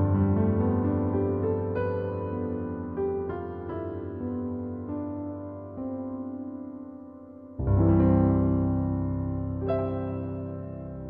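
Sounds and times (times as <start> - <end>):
slow soft piano music: 0.0 - 11.0.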